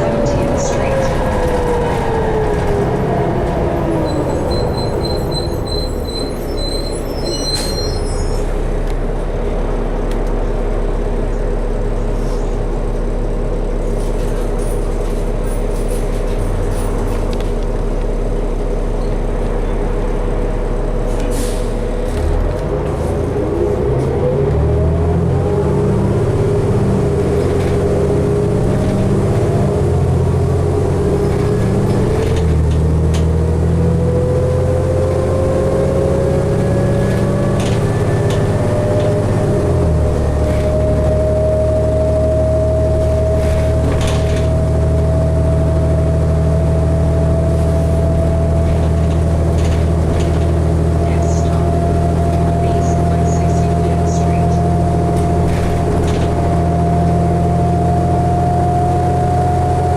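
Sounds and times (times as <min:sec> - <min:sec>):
rising engine whine: 0:00.0 - 0:14.0, 0:16.4 - 0:59.9
bus engine running: 0:00.0 - 0:59.9.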